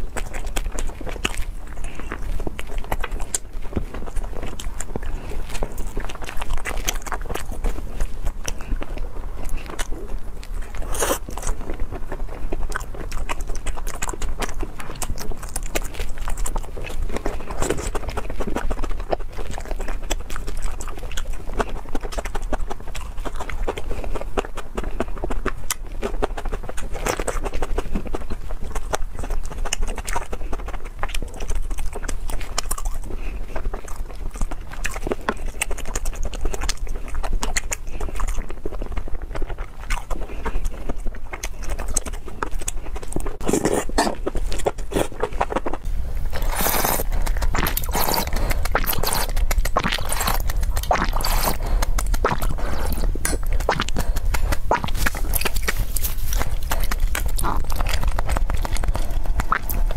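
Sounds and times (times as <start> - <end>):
chewing and slurping: 0.0 - 59.9
wet mouth clicks and smacks: 0.0 - 59.9.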